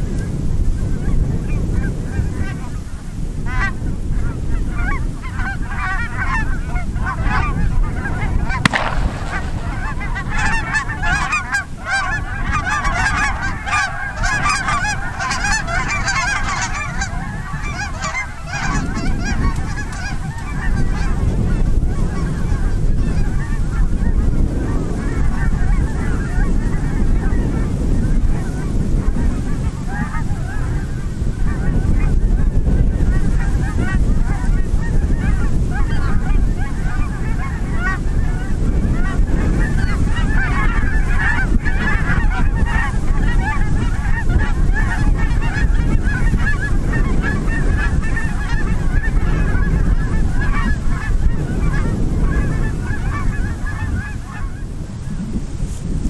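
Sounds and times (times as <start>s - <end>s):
geese honking in flight: 0.9s - 54.8s.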